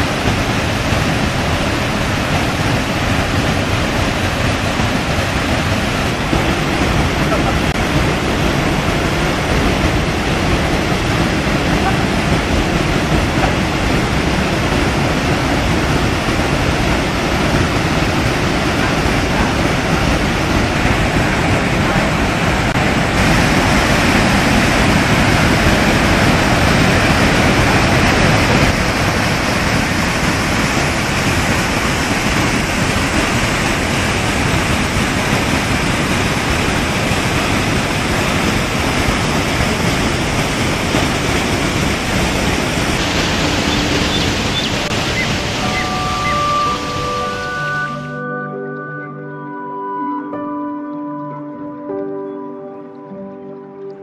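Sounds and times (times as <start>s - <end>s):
whitewater rushing over boulders: 0.0s - 48.0s.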